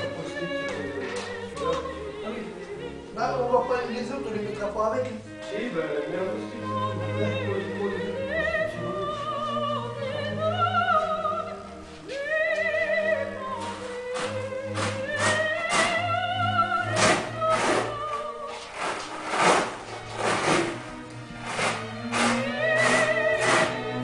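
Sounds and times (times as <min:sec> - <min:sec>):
operatic singing: 0:00.0 - 0:24.0
orchestral accompaniment: 0:00.0 - 0:24.0.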